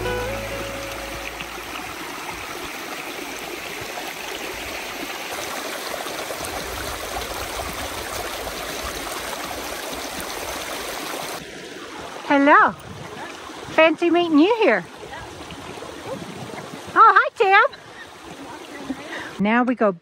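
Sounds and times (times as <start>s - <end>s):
creek trickling over rocks: 0.0s - 19.4s.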